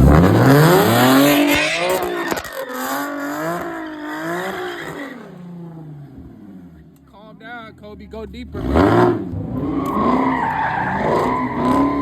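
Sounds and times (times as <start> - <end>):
tires screeching: 0.0 - 6.8, 8.2 - 12.0
car engine revving: 0.0 - 12.0.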